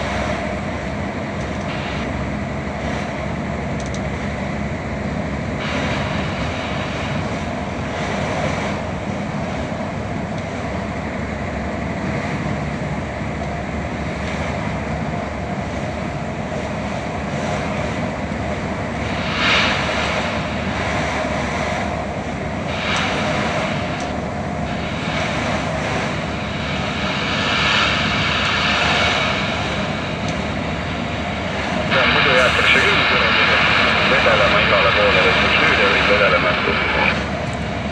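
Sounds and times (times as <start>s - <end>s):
engine drone and tyre noise: 0.0s - 37.9s.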